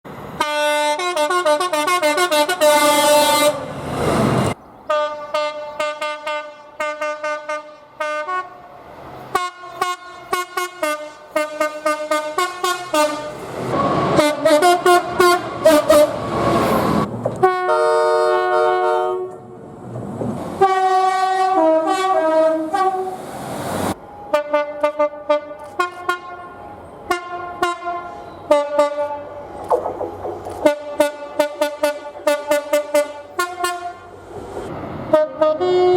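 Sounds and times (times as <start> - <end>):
train horns sounding chords: 0.4 - 3.7, 4.9 - 8.6, 9.3 - 19.5, 20.6 - 23.2, 24.3 - 29.5, 30.6 - 34.2, 35.1 - 35.9.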